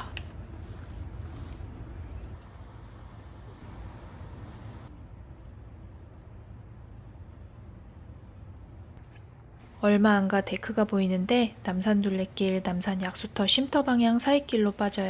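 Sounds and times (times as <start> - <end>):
steady low rumble: 0.0 - 13.0
insects chirping trill: 0.0 - 15.0.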